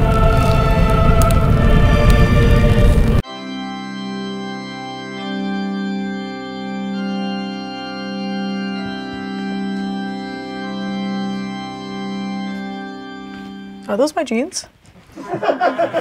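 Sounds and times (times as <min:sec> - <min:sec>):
slow solemn organ music: 0:00.0 - 0:14.2.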